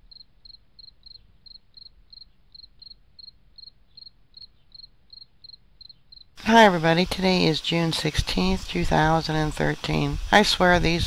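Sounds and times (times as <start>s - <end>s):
cricket chirping: 0.0s - 10.1s
faint low hum: 0.0s - 11.0s.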